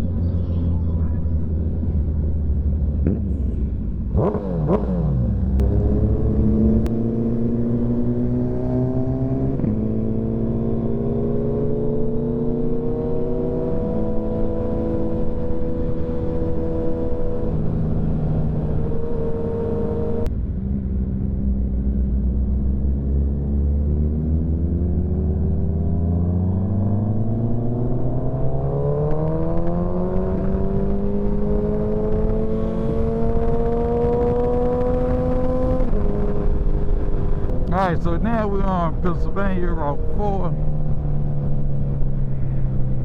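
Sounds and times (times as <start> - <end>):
road and wind rumble: 0.0 - 43.0
motorcycle engine accelerating: 1.0 - 43.0.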